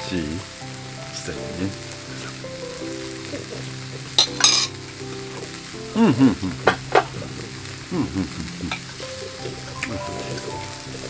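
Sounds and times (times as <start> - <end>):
pancakes sizzling: 0.0 - 11.0.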